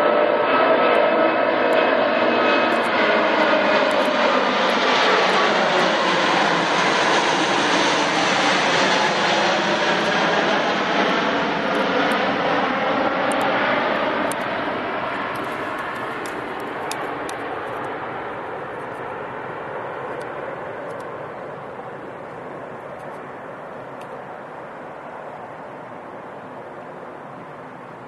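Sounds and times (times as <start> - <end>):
jet engines of passing airliner: 0.0 - 28.0.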